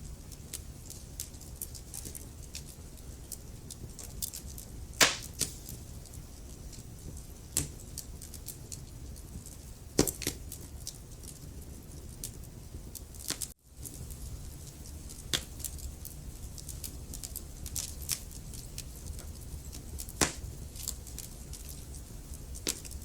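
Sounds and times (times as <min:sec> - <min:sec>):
fire rumbling and crackling: 0:00.0 - 0:23.0
fire popping: 0:00.2 - 0:23.0.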